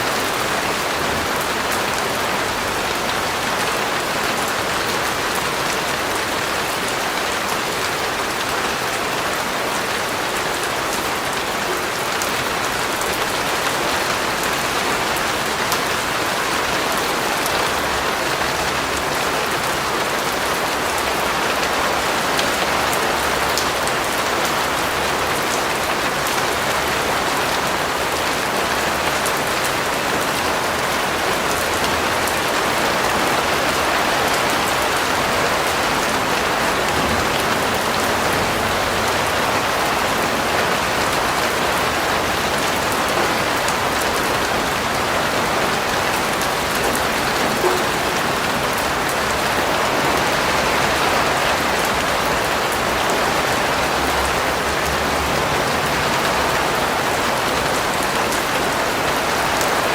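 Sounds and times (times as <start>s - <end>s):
rain pattering on a surface: 0.0s - 59.9s.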